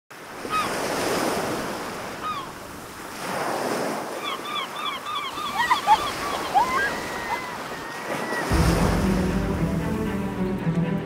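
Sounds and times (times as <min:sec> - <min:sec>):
sea waves breaking: 0:00.1 - 0:11.0.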